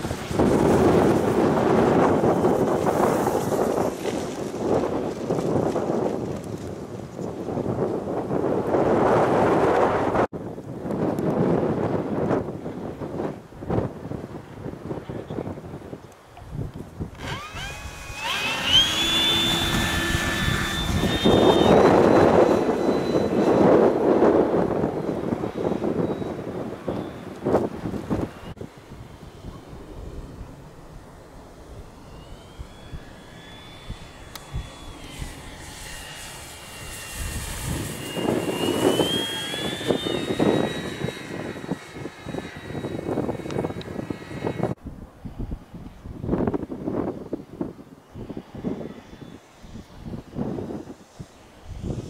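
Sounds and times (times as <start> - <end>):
electric model plane motor whining: 0.0 - 10.3, 16.6 - 52.0
wind noise on microphone: 0.0 - 52.0.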